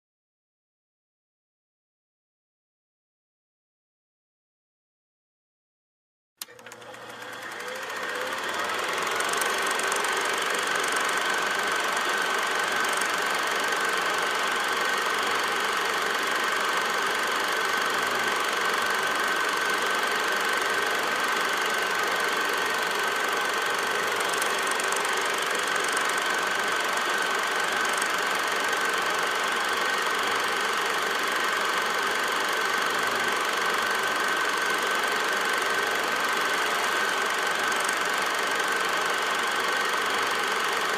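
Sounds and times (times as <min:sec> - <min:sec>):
film projector whirring: 0:06.4 - 0:40.9.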